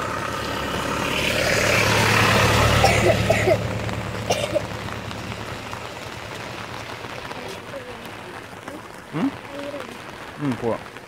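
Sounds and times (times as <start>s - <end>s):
steady rain hiss: 0.0s - 11.0s
vehicle passing on wet road: 0.0s - 11.0s.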